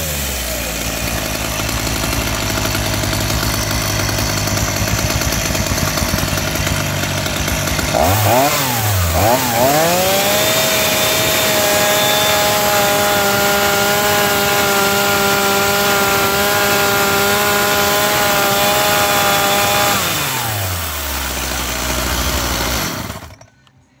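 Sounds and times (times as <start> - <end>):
chainsaw engine running: 0.0 - 23.5.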